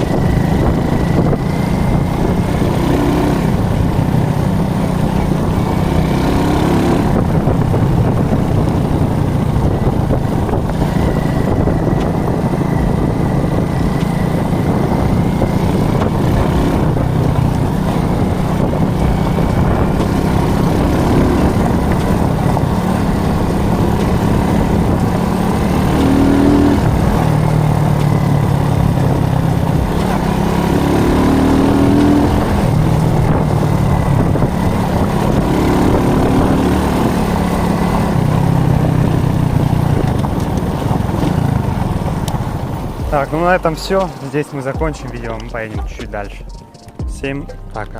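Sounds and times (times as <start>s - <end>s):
moped engine running: 0.0s - 47.9s.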